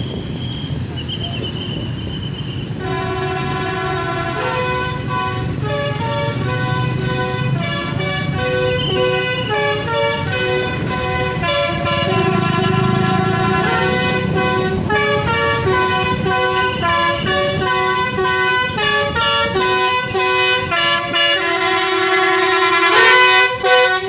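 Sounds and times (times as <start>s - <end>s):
multi-trumpet horn melody: 2.6s - 24.0s.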